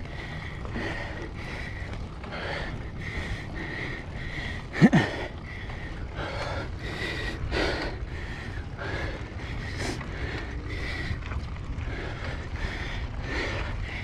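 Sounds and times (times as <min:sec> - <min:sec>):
rider breathing hard: 0:00.0 - 0:14.0.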